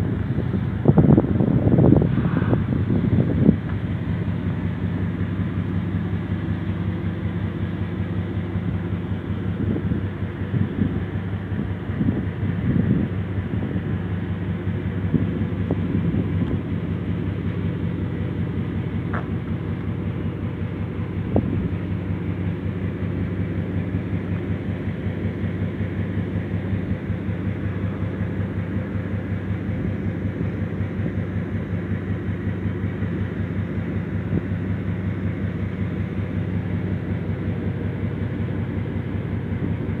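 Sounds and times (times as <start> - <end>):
engine running steadily: 0.0 - 40.0.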